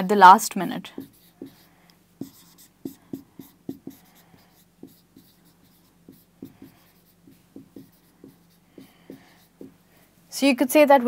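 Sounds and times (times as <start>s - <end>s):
marker writing on whiteboard: 0.8s - 9.8s.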